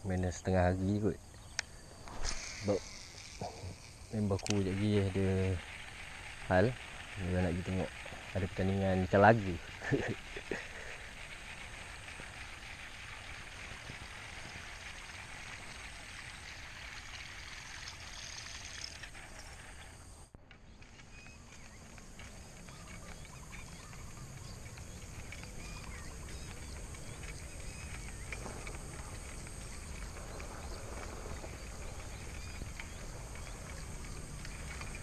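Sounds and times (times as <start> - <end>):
outdoor background hiss: 0.0 - 35.0
faint chirping animal calls: 1.3 - 13.5, 14.1 - 35.0.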